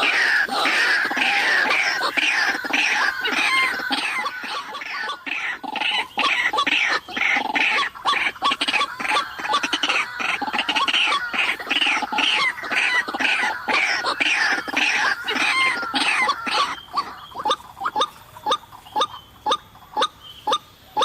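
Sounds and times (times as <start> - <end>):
bird calling repeatedly: 0.0 - 21.0.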